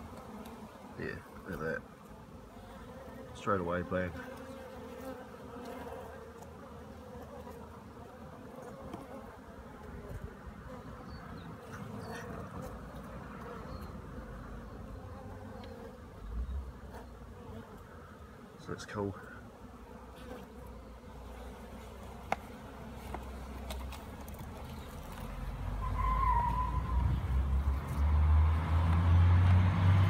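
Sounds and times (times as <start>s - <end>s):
bees buzzing: 0.0s - 25.8s.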